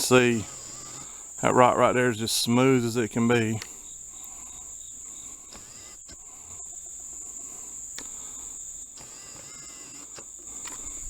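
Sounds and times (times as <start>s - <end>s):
insects chorus drone: 0.0s - 11.0s.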